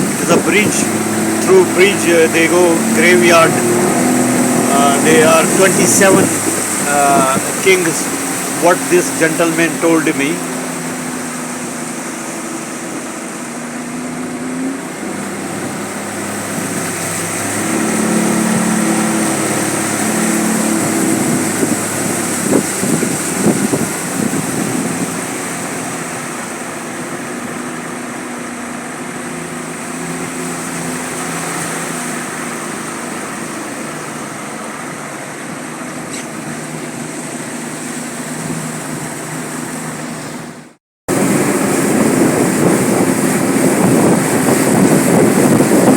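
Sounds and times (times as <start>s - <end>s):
small boat motor running: 0.0s - 45.9s.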